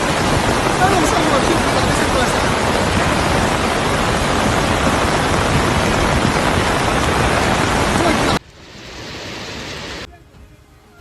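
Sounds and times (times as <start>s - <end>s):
flood water rushing: 0.0s - 10.1s.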